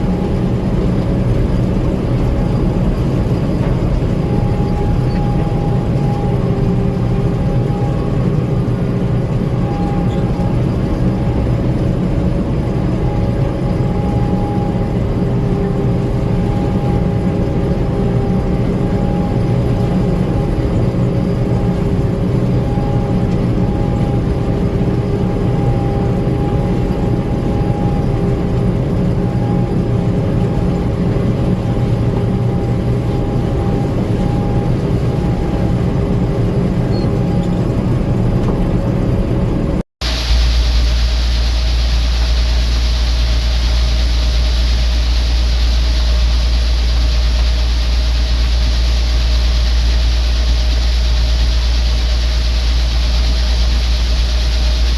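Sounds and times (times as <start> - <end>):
combine harvester engine drone: 0.0 - 54.9
steady machine whine: 0.0 - 54.9.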